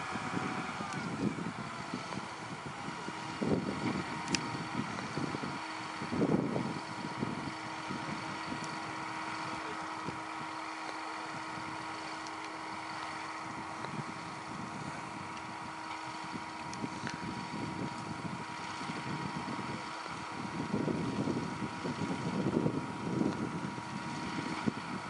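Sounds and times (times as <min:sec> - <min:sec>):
crane engine droning: 0:00.0 - 0:25.0.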